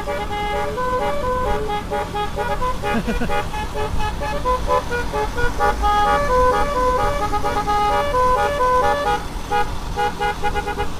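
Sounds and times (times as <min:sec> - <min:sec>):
low engine rumble: 0:00.0 - 0:10.9
musical horn playing a tune: 0:00.0 - 0:10.9.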